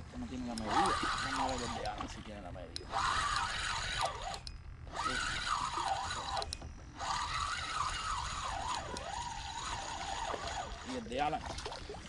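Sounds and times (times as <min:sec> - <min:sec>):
fishing reel gear whine: 0:00.0 - 0:12.0.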